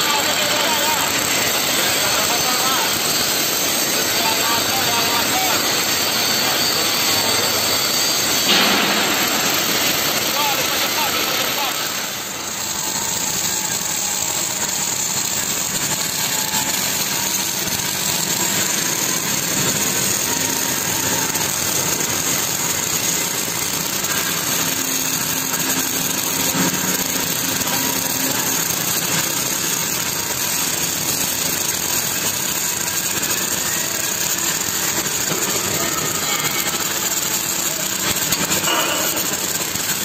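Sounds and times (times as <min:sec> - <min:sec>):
arc welding hiss: 0:00.0 - 0:40.0.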